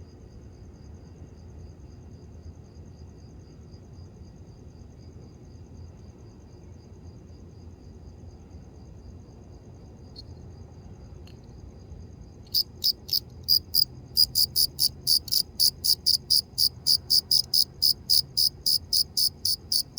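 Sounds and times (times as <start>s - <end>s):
cricket chirping: 0.2s - 19.9s.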